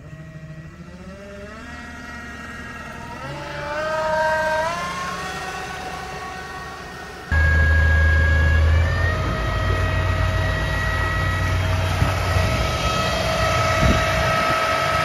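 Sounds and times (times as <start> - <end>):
electric boat motor whining: 0.0 - 15.0
water churning from propeller: 1.6 - 15.0.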